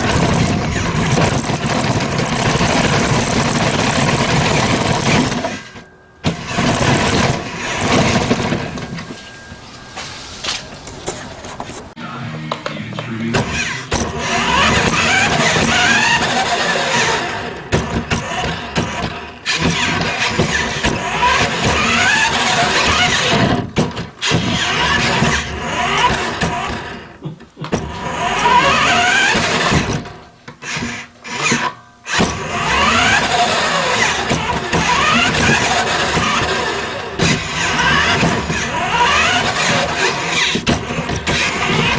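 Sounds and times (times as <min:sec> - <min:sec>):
toy truck motor running: 0:00.0 - 0:09.0, 0:13.4 - 0:41.9.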